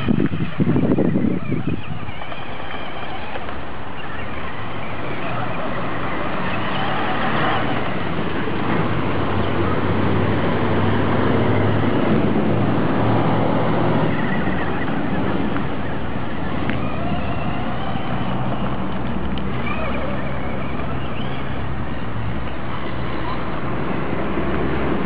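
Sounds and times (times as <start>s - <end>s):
toy truck motor and tyres: 0.0s - 25.0s.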